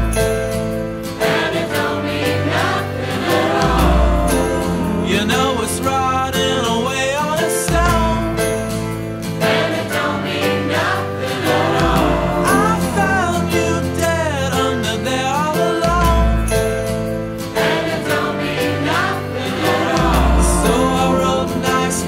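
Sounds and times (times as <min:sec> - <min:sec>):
song with singing voice: 0:01.2 - 0:08.6, 0:09.6 - 0:16.5, 0:17.7 - 0:22.0.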